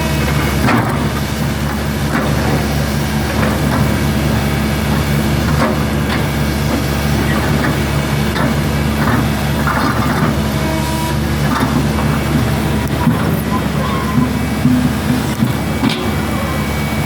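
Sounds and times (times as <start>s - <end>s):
machine knocks and clanks: 0.0s - 10.5s, 11.2s - 16.3s
excavator diesel engine running: 0.0s - 17.0s.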